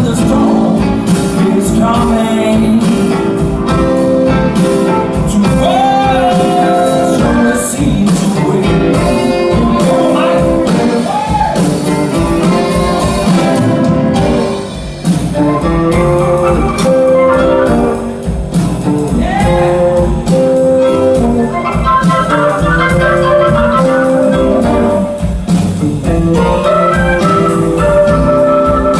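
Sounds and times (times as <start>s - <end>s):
blues band instrumental: 0.0s - 28.9s.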